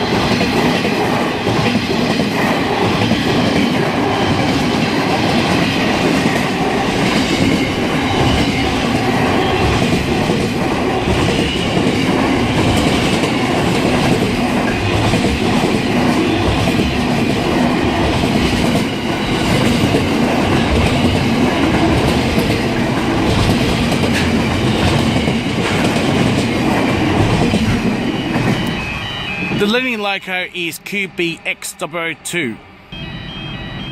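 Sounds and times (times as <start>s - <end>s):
freight train wheels rolling: 0.0s - 29.8s.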